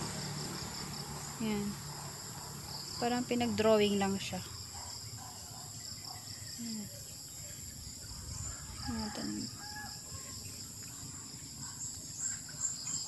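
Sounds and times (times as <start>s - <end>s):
insects chirping trill: 0.0s - 13.0s.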